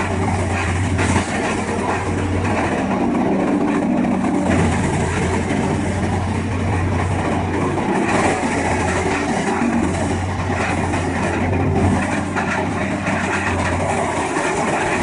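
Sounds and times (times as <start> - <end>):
tub grinder grinding wood: 0.0 - 15.0.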